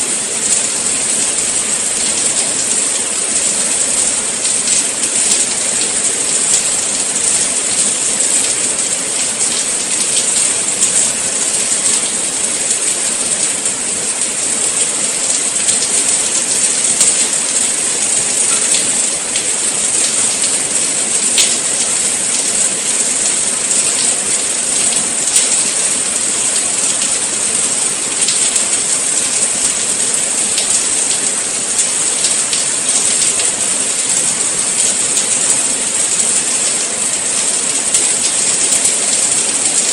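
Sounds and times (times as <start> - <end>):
steady rain hiss: 0.0 - 39.9
raindrops ticking: 0.1 - 39.9.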